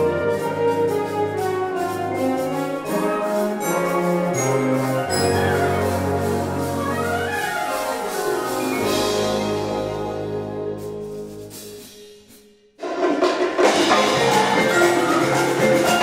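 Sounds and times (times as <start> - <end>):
classical brass ensemble music: 0.0 - 11.8, 13.7 - 16.0.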